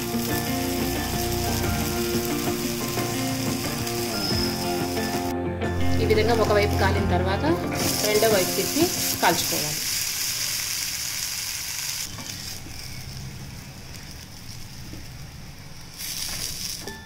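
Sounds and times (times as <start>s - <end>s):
dosa sizzling in a pan: 0.0s - 5.3s, 7.7s - 17.0s.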